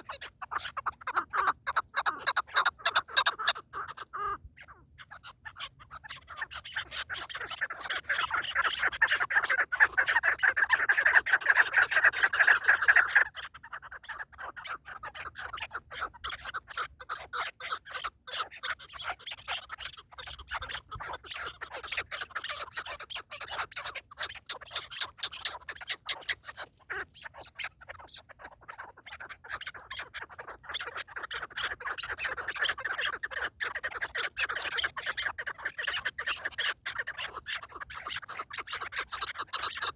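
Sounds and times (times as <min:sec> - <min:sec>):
partridges rasping clucks: 0:00.0 - 0:39.9.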